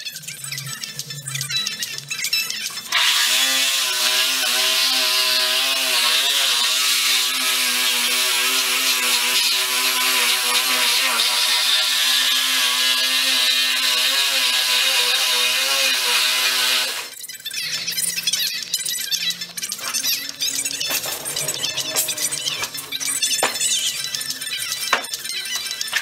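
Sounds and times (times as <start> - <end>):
reciprocating saw cutting: 2.7 - 17.2, 19.6 - 26.0.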